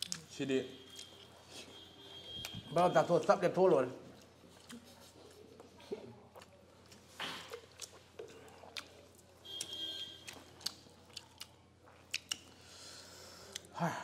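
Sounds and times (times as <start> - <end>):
chewing with wet clicks: 0.0 - 2.6, 4.0 - 12.8, 13.4 - 13.7.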